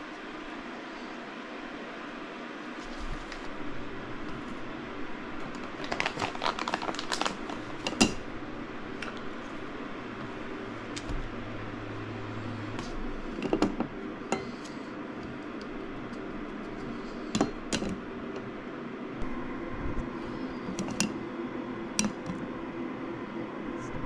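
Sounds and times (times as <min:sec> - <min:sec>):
room hum: 0:00.0 - 0:24.0.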